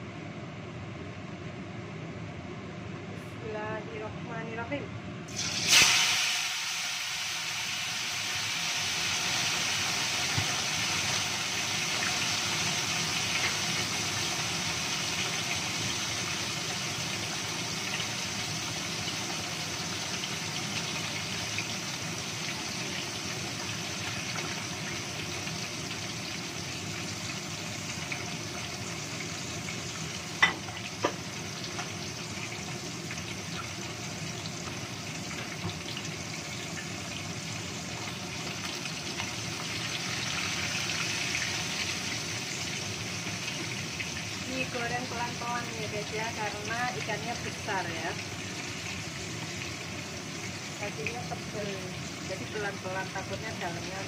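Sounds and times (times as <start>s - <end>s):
fish sizzling in hot oil: 5.3s - 54.0s.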